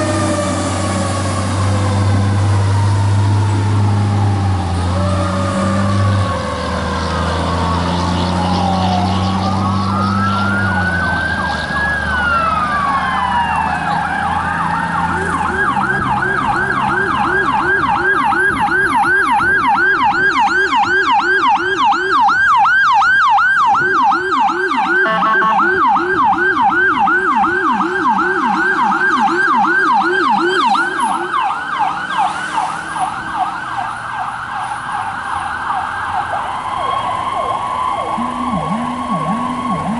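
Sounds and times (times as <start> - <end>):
electronic sirens wailing and yelping: 0.0 - 39.9
truck engine: 0.0 - 39.9.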